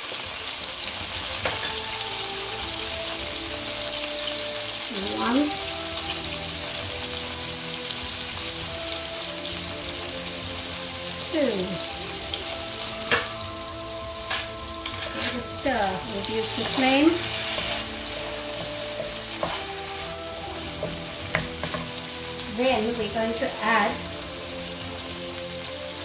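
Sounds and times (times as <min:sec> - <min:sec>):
hot oil sizzling in a wok: 0:00.0 - 0:26.0.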